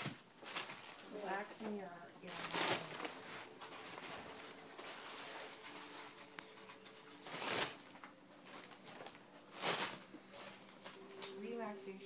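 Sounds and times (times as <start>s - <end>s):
paper rustling and crinkling: 0.0s - 11.6s.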